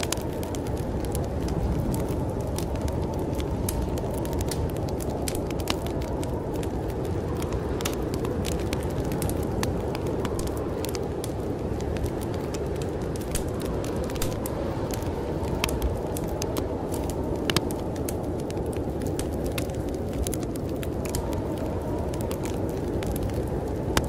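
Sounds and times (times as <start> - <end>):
snowstorm wind rushing: 0.0 - 24.0
wood fire crackling and popping: 0.0 - 24.0.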